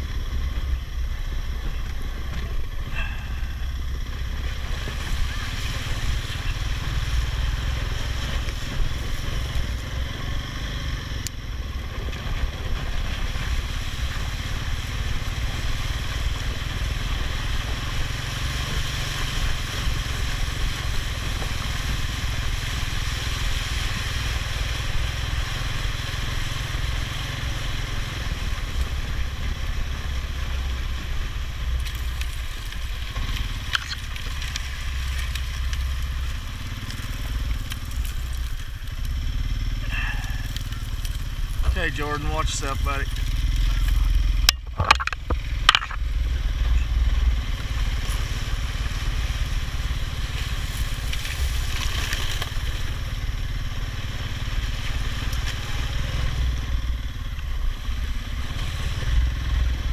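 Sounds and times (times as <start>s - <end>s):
all-terrain vehicle engine running: 0.0s - 59.9s.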